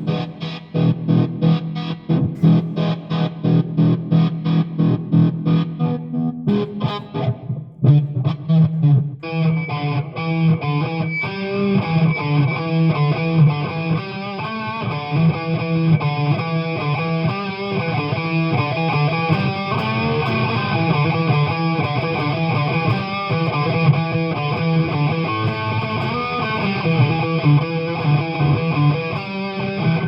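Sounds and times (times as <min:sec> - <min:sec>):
electric guitar notes: 0:00.0 - 0:30.0.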